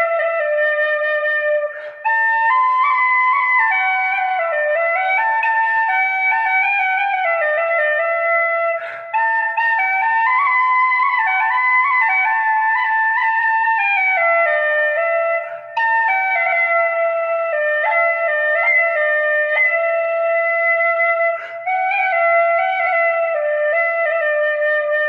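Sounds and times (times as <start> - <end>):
flute melody: 0.0 - 25.0.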